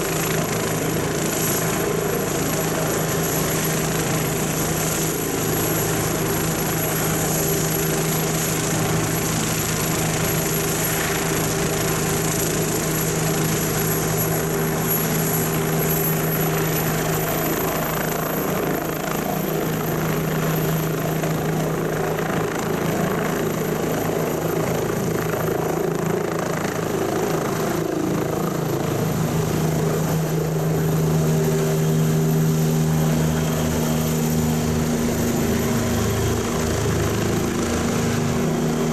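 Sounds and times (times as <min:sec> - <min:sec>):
helicopter rotor noise: 0:00.0 - 0:38.9
helicopter turbine whine: 0:00.0 - 0:38.9.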